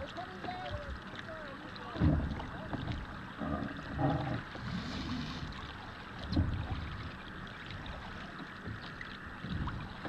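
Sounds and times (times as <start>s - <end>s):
water lapping against kayak hull: 0.0s - 10.0s.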